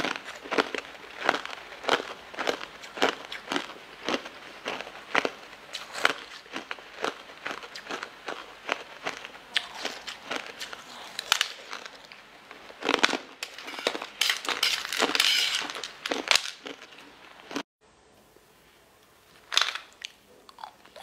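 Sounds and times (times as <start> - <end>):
chewing gummy candies: 0.0 - 17.6, 19.9 - 21.0.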